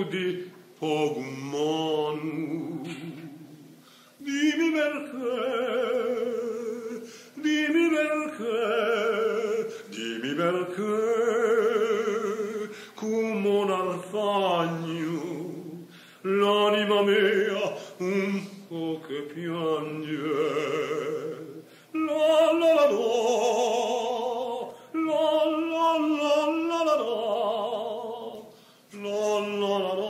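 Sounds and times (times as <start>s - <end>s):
person singing with vibrato: 0.0s - 30.0s.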